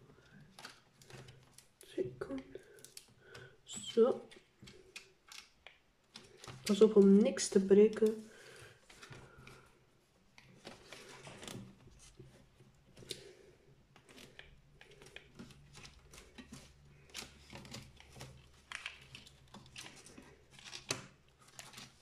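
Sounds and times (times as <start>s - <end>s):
plastic clips clicking and creaking: 0.0s - 9.6s, 10.3s - 22.0s.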